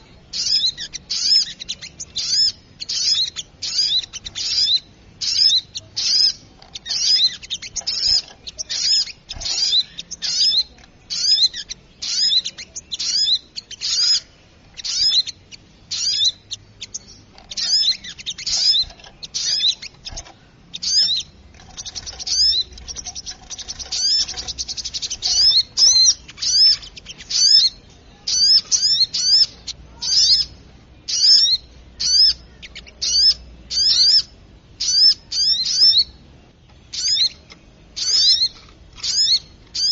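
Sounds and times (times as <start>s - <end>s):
buzzy bird trill: 0.0s - 39.9s
sunbird chirping: 0.0s - 39.9s.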